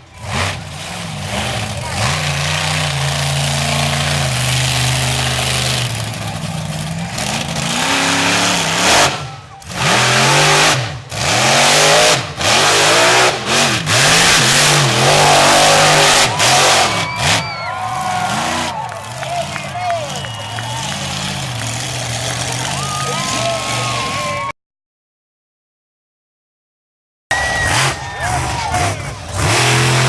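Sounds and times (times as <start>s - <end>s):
monster truck engine revving: 0.0s - 24.5s, 27.3s - 30.0s.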